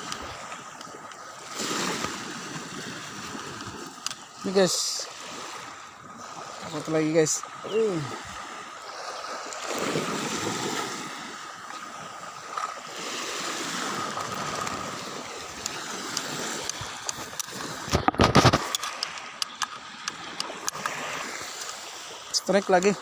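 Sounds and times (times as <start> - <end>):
water lapping around boat: 0.0 - 23.0.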